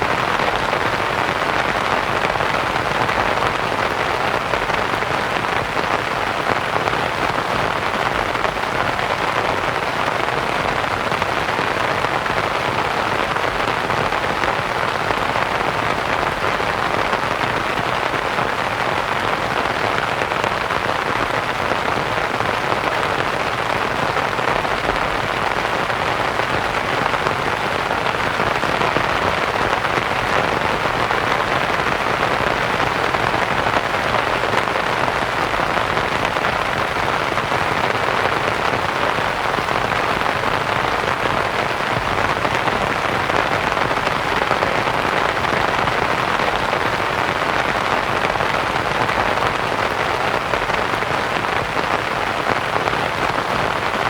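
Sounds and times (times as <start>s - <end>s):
rain pattering on canvas tent: 0.0s - 54.0s.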